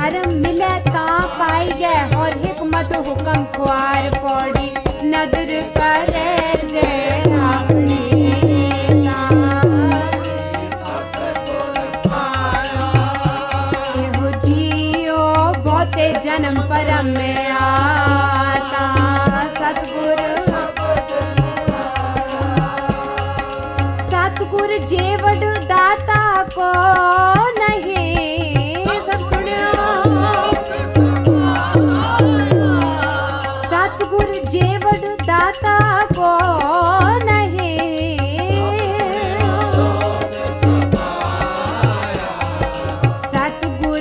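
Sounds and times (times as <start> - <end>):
harmonium drone: 0.0 - 44.0
tabla beat: 0.0 - 44.0
women singing hymns: 0.0 - 44.0.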